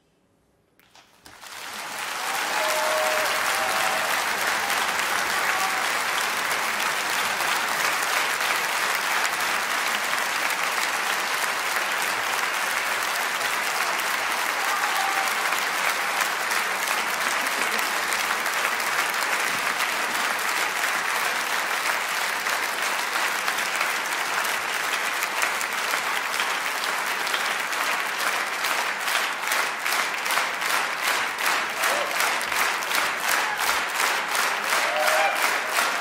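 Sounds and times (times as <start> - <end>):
audience applauding: 0.8 - 36.0
rhythmic applause in unison: 0.8 - 36.0.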